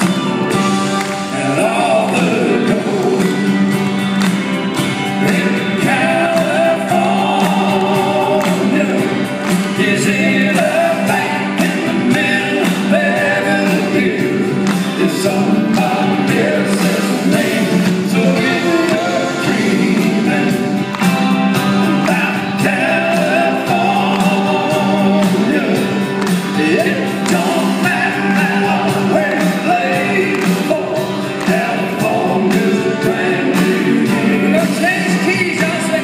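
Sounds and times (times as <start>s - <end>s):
live country band playing: 0.0s - 36.0s
men singing in harmony: 1.1s - 3.7s, 5.0s - 36.0s.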